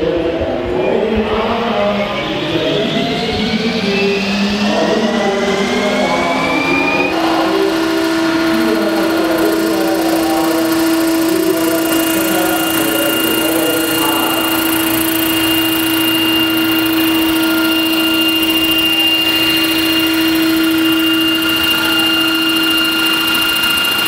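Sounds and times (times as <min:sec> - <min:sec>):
higher steady whine: 0:00.0 - 0:24.0
model helicopter whine and rotor hum: 0:00.0 - 0:24.0.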